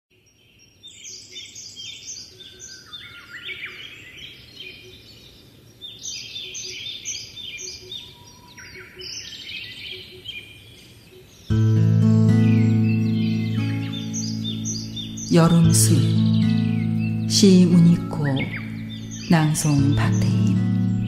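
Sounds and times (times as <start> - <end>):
songbirds chirping and singing: 0.2 - 21.0.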